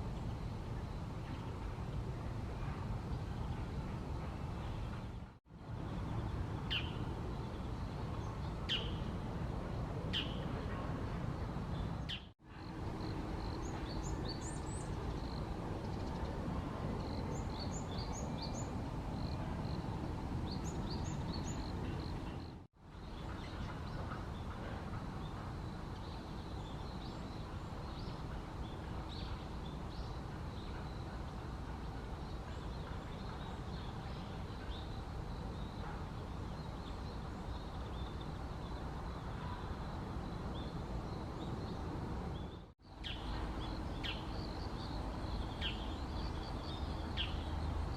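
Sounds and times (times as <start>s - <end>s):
low background noise: 0.0s - 47.9s.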